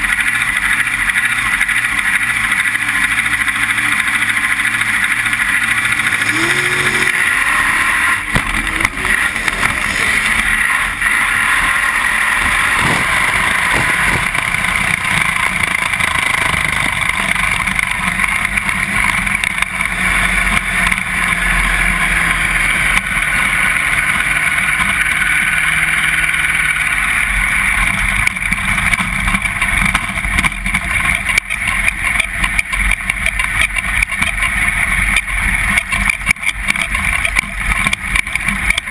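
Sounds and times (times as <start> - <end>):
vehicle in motion: 0.0 - 38.9.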